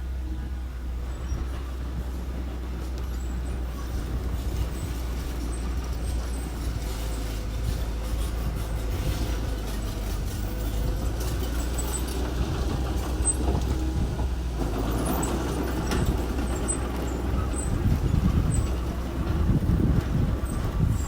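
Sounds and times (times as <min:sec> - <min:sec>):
construction machinery engine droning: 0:00.0 - 0:21.0
rattling clatter: 0:01.1 - 0:21.0.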